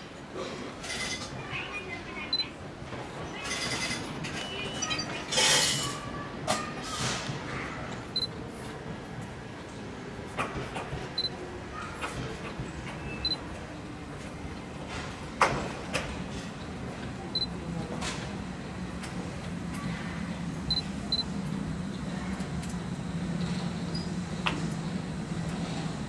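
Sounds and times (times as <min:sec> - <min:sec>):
distant freight train hum: 0:00.0 - 0:26.0.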